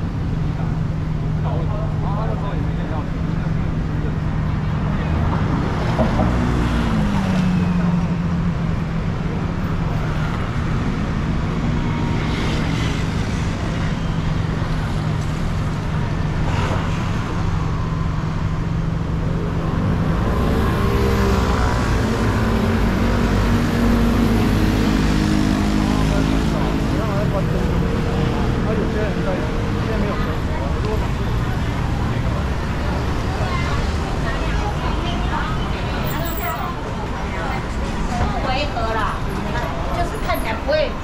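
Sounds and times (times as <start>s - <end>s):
low hum of vehicle engines: 0.0s - 41.0s
passersby's voices: 0.0s - 41.0s.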